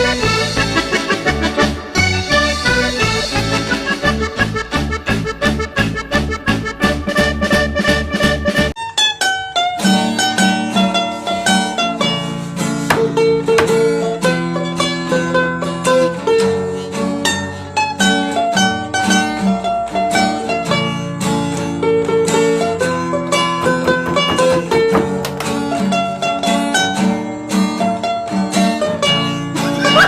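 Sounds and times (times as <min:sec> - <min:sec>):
plucked string instrument melody: 0:00.0 - 0:30.0.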